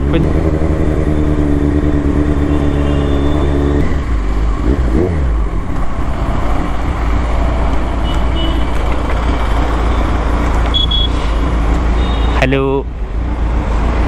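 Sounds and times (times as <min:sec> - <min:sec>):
motorcycle engine while riding: 0:00.0 - 0:12.4.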